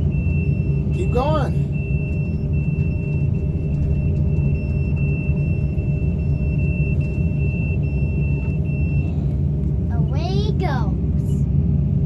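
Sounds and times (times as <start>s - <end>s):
excavator engine rumbling: 0.0s - 12.0s.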